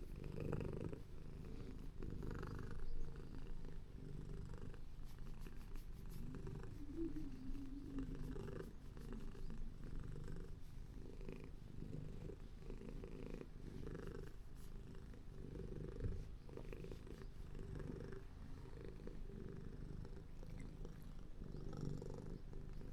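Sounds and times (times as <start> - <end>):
cat purring: 0.0 - 22.9.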